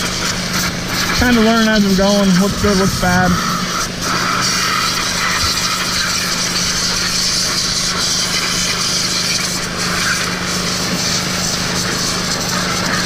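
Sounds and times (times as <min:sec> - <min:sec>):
high-pressure water spray hissing: 0:00.0 - 0:13.0
pressure washer motor humming: 0:00.0 - 0:13.0.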